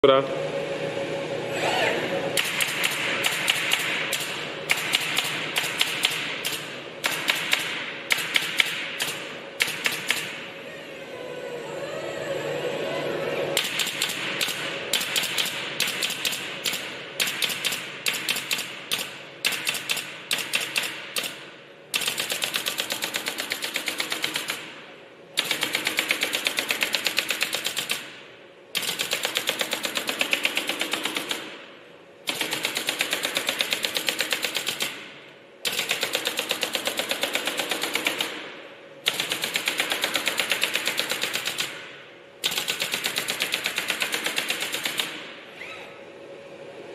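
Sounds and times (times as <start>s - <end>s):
industrial stapler firing: 2.4s - 10.4s, 13.6s - 45.4s.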